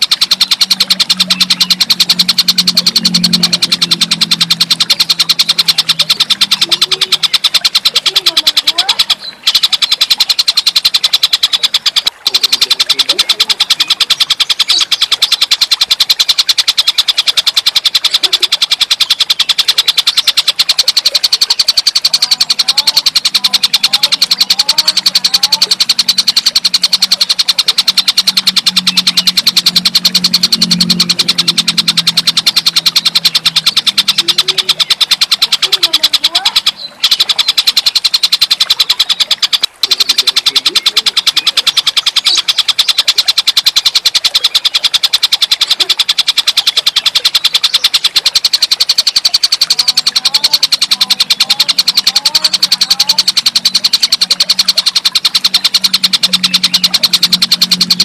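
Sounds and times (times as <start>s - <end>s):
bird rattling trill: 0.0s - 58.0s.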